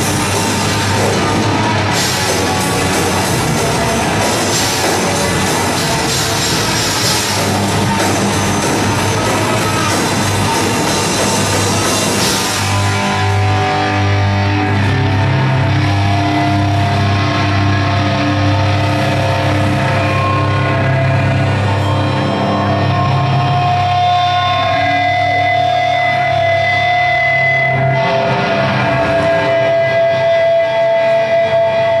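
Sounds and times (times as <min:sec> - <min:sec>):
cymbal wash: 0:00.0 - 0:32.0
heavy metal band playing: 0:00.0 - 0:32.0
held guitar and bass notes: 0:00.0 - 0:32.0.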